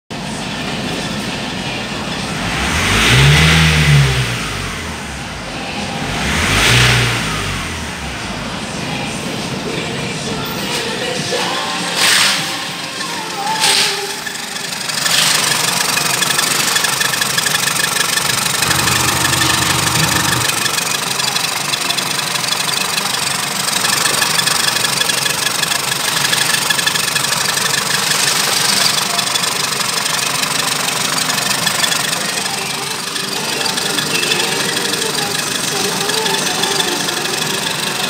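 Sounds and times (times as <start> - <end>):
diesel engine idling: 0.1 - 10.7, 13.1 - 38.0.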